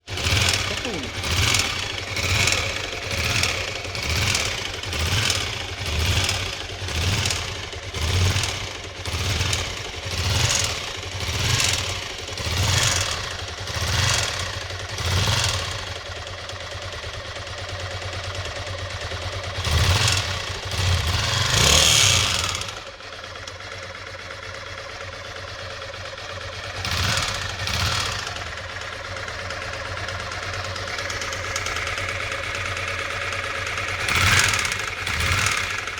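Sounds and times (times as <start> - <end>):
motorcycle engine knocking and revving: 0.0 - 35.9.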